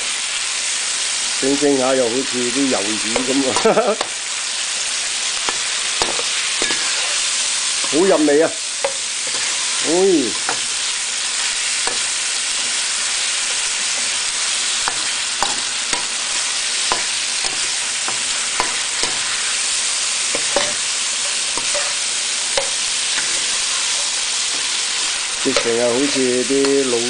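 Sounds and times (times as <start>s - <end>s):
food sizzling in a wok: 0.0s - 27.0s
metal spatula scraping wok: 2.7s - 27.0s.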